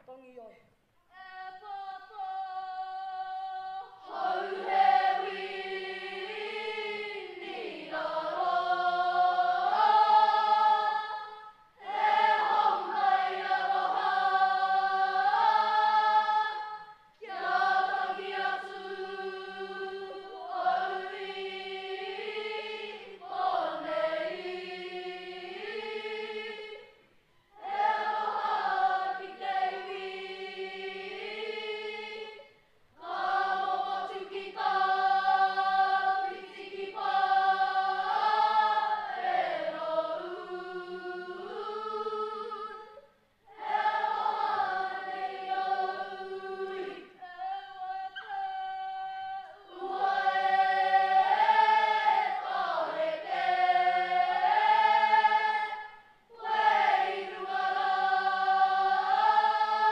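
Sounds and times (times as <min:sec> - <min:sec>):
children singing together: 0:01.2 - 0:27.0, 0:27.6 - 0:59.9.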